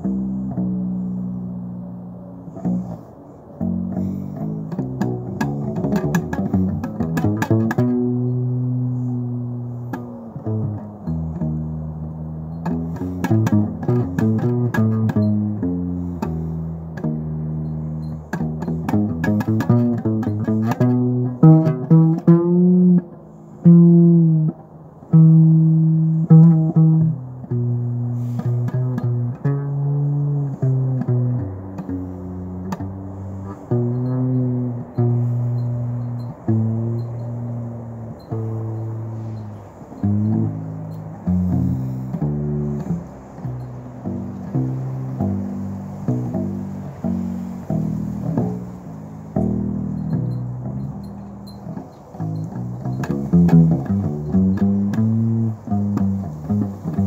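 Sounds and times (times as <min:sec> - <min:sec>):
electric upright bass plucked: 0:00.0 - 0:57.0.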